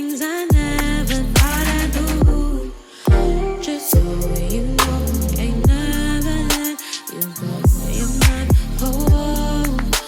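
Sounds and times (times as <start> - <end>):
mellow r and b music: 0.0 - 10.0.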